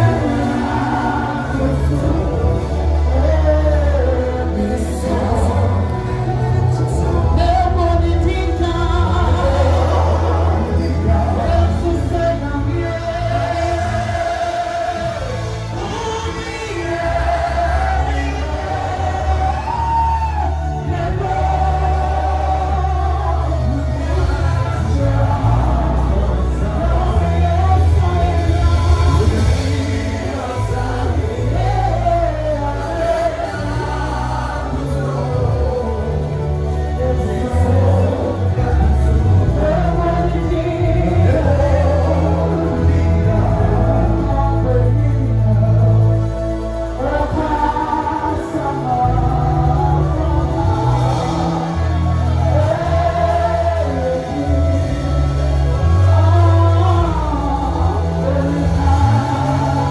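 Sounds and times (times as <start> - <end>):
gospel band playing: 0.0 - 59.9
voices singing: 0.0 - 59.9.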